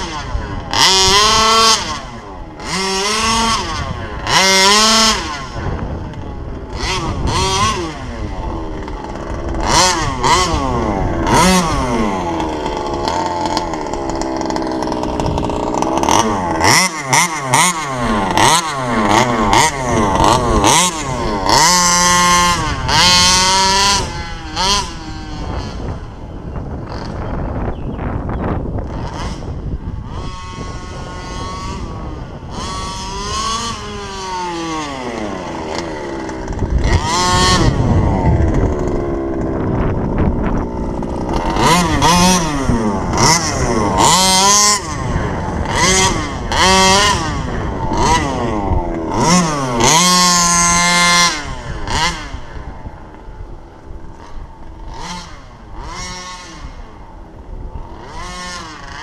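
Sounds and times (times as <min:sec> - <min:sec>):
rc car engine revving: 0:00.0 - 0:59.0.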